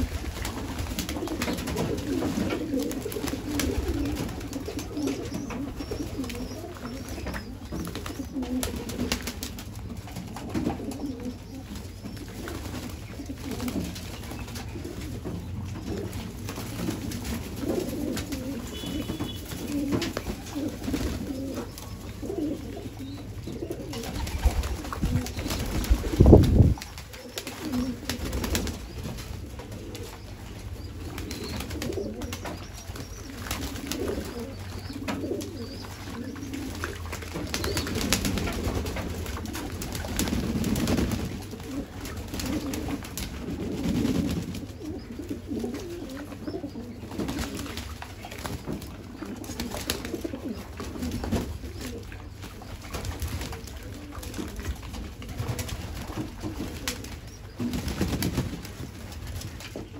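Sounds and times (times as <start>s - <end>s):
pigeons cooing: 0.0s - 59.9s.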